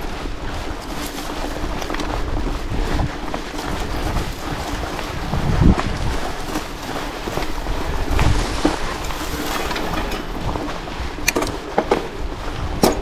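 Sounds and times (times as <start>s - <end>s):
bike tyre rushing noise: 0.0s - 13.0s
bike knocking over rocks: 0.7s - 12.2s.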